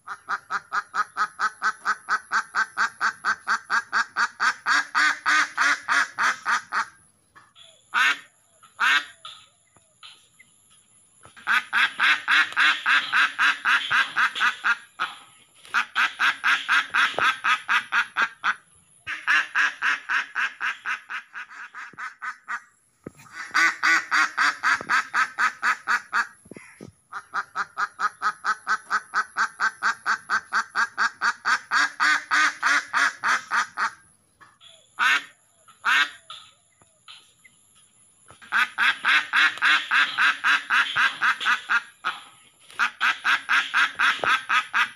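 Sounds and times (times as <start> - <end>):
duck quacking: 0.0 - 9.4, 11.3 - 34.0, 35.0 - 36.5, 38.4 - 44.9.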